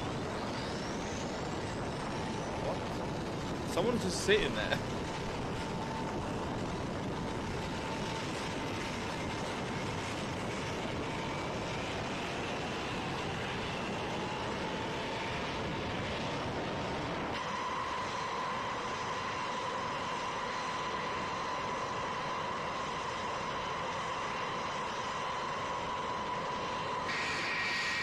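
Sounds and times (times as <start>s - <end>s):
jet engines spooling up: 0.0s - 28.0s.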